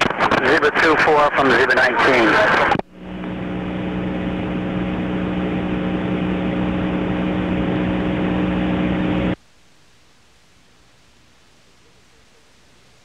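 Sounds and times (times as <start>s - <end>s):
radio static hiss: 0.0s - 5.6s, 7.0s - 13.0s
low hum: 0.1s - 13.0s.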